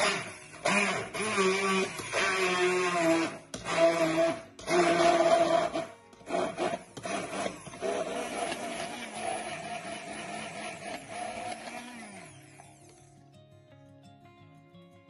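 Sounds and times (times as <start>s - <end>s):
immersion blender motor whining: 0.0s - 13.0s.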